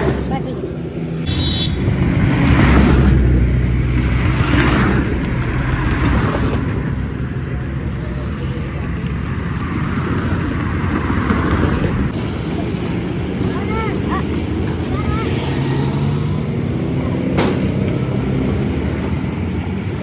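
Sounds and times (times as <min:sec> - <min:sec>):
broad noise: 0:00.0 - 0:20.0
vehicle engine running: 0:00.0 - 0:20.0.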